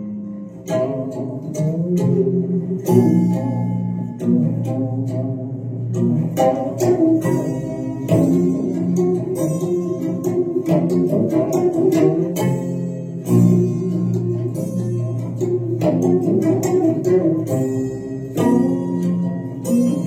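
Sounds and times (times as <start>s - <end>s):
plucked string instrument music: 0.0s - 20.0s.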